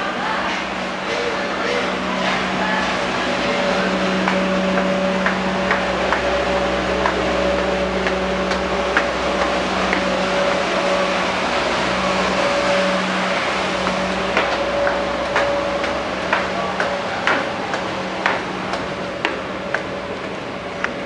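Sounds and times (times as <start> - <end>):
constant rushing noise: 0.0 - 21.0
machinery hum: 0.0 - 21.0.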